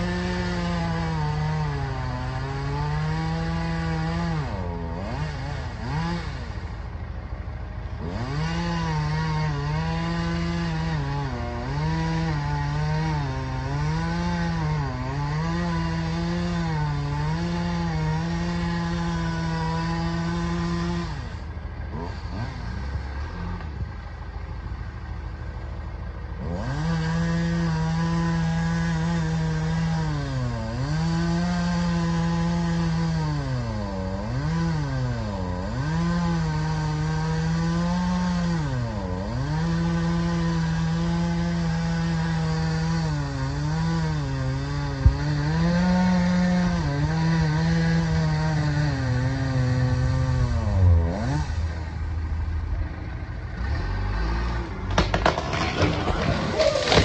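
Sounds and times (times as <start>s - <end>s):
chainsaw cutting tree trunk: 0.0s - 57.0s.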